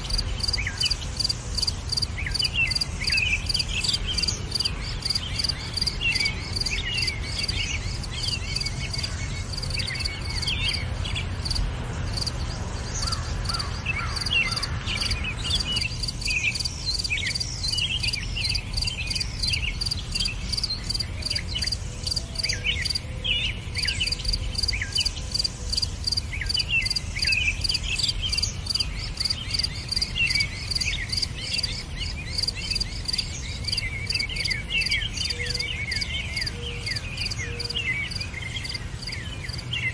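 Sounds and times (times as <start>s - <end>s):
bird chirps: 0.0s - 39.9s
insect trill: 0.0s - 39.9s.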